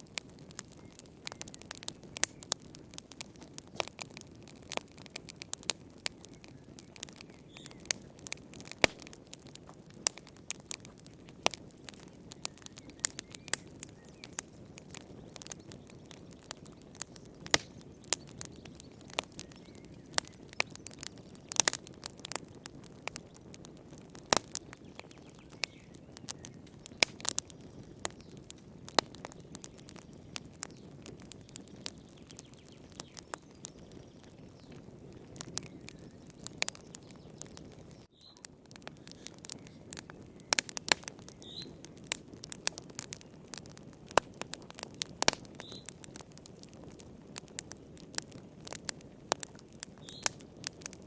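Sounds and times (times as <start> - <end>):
low rush of burning: 0.0 - 51.0
wood fire crackling and popping: 0.0 - 51.0.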